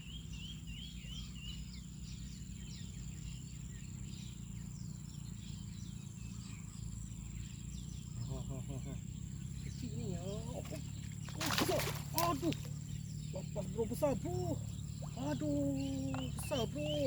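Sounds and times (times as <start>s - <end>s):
bird warbling call: 0.0s - 17.0s
birds chirping: 0.0s - 17.0s.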